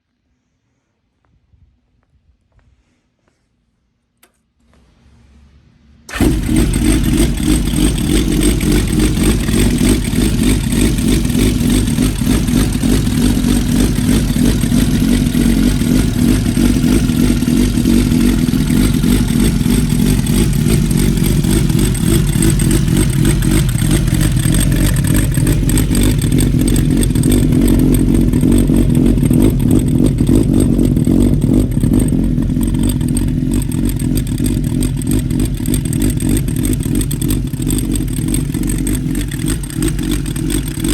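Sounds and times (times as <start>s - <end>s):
motorcycle engine running: 6.1s - 40.9s.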